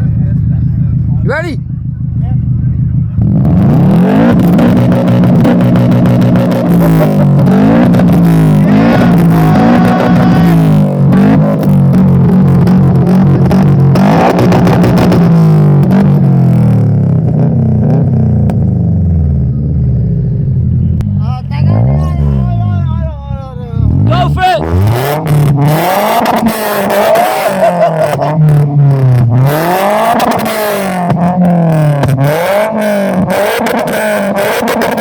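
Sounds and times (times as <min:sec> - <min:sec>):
car engine revving hard: 0:03.1 - 0:20.0, 0:23.8 - 0:35.0.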